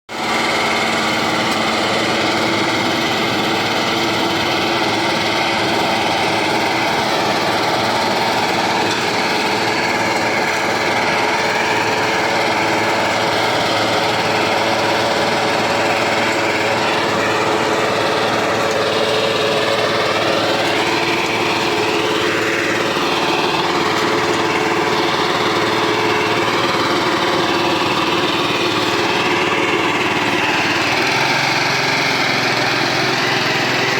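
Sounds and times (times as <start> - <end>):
small engine running steadily: 0.1 - 33.9.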